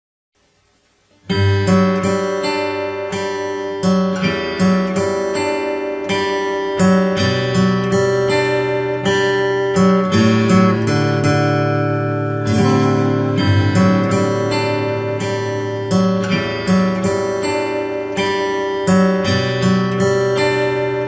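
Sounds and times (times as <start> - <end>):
acoustic guitar playing: 0.9 - 21.0.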